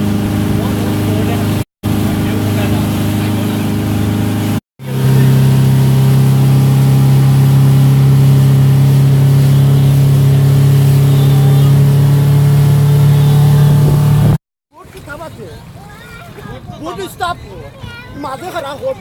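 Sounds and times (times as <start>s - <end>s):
motorboat engine running: 0.0s - 17.2s.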